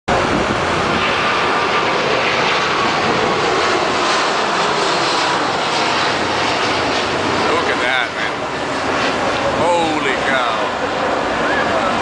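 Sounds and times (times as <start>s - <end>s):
jet engines at takeoff: 0.1s - 12.0s.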